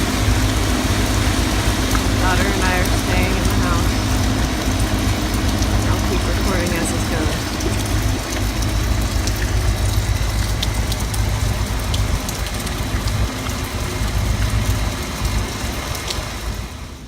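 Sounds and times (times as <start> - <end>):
heavy rain pattering: 0.0 - 17.0
wind rumbling on microphone: 0.0 - 17.0.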